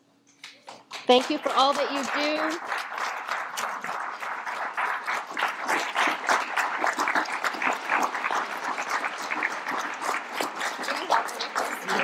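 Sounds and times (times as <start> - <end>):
audience applauding: 0.6 - 12.0.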